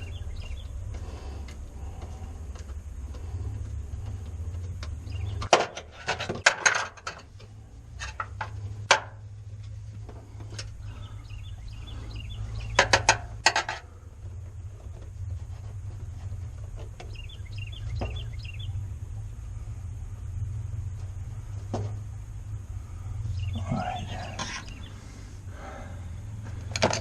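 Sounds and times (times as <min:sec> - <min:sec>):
birds chirping: 0:00.0 - 0:06.8, 0:07.4 - 0:27.0
steady low hum: 0:00.0 - 0:27.0.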